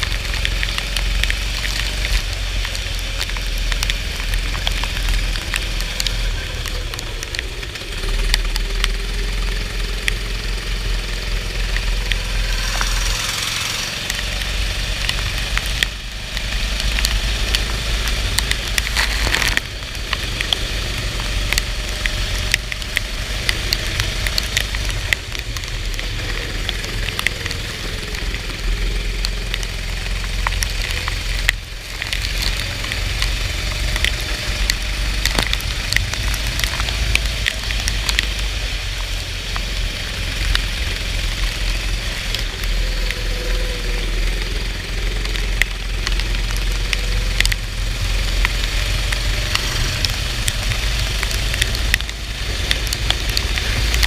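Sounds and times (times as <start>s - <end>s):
go-kart engine racing: 0.0s - 54.0s
heavy low rumble: 0.0s - 54.0s
rain and water spray hiss: 0.0s - 54.0s.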